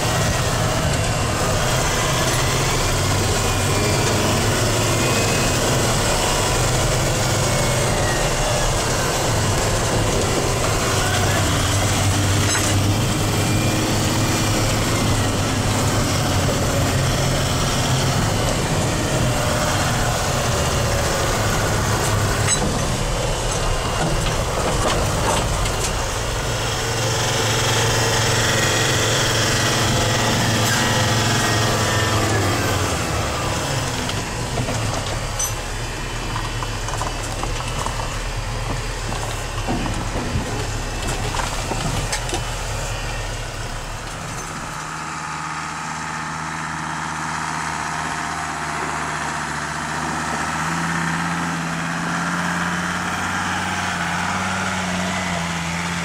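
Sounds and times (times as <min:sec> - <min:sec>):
van engine running: 0:00.0 - 0:56.0.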